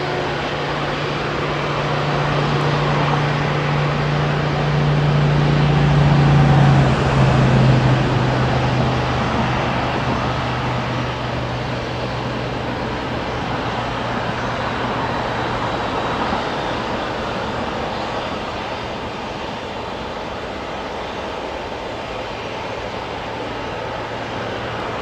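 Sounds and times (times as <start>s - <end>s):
large vehicle passing: 0.0s - 25.0s.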